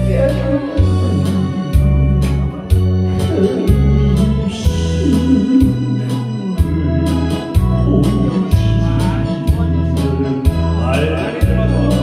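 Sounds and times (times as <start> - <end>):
instrumental melody line: 0.0 - 12.0
steady bass: 0.0 - 12.0.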